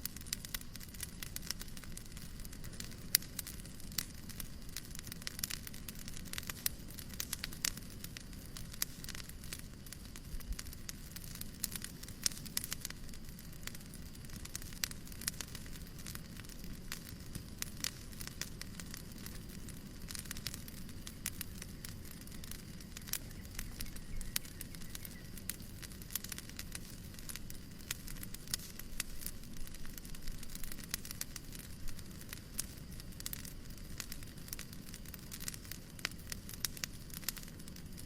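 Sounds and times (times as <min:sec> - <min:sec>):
fireplace crackling: 0:00.0 - 0:38.0
low rumbling hiss: 0:00.0 - 0:38.0.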